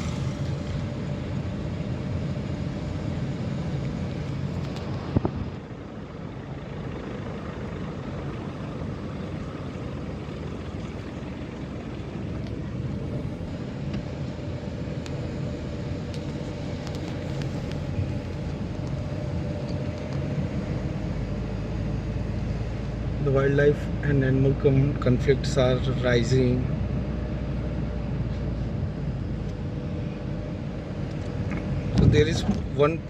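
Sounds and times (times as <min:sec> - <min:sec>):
vehicle engine and tyre rumble: 0:00.0 - 0:33.0.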